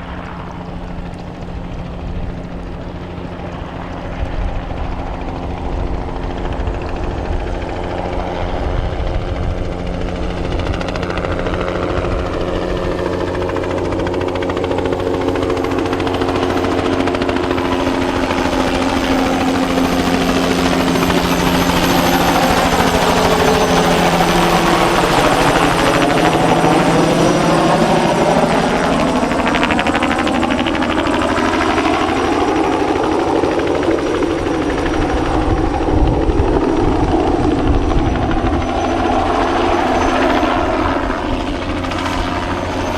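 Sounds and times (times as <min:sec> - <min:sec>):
helicopter flying past: 0:00.0 - 0:42.9.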